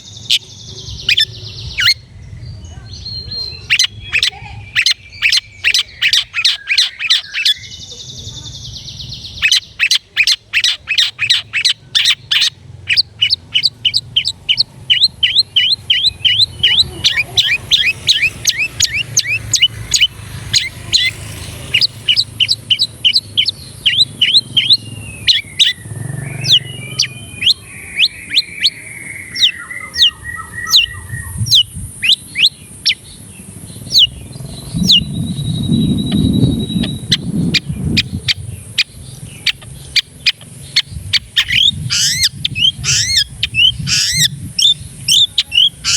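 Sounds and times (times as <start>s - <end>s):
bird chirping rapidly: 0.0s - 45.9s.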